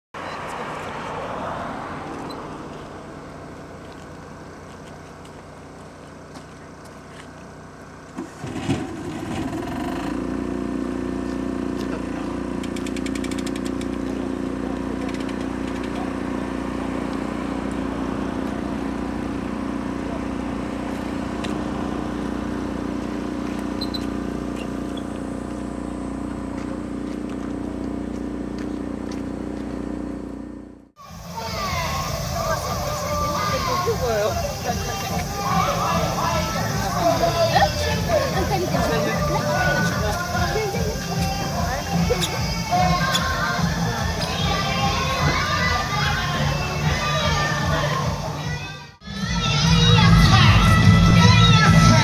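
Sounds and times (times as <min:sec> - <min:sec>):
engine starting and idling: 0:02.2 - 0:48.8.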